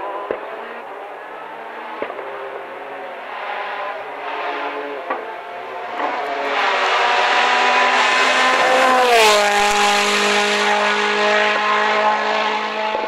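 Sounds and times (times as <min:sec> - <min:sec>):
rally car passing at speed: 0:00.0 - 0:13.0.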